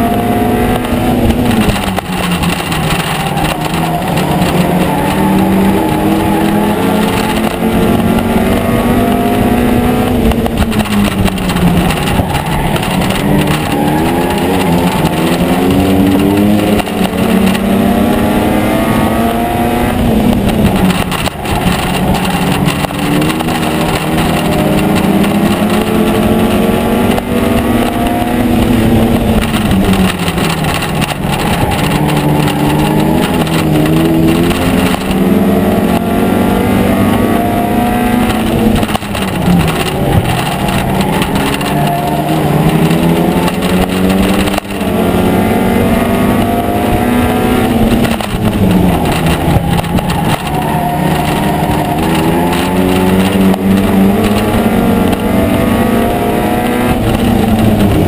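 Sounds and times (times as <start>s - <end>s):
race car engine revving: 0.0s - 58.0s
wind and road noise: 0.0s - 58.0s.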